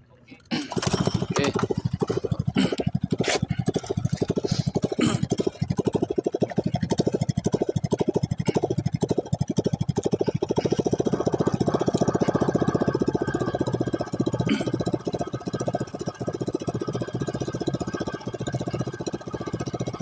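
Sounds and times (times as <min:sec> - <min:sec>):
boat engine idling: 0:00.0 - 0:20.0.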